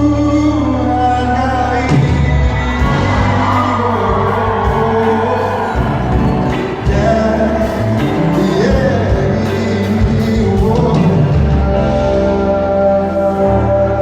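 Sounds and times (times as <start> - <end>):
live pop band playing: 0.0 - 14.0
person singing: 0.0 - 14.0.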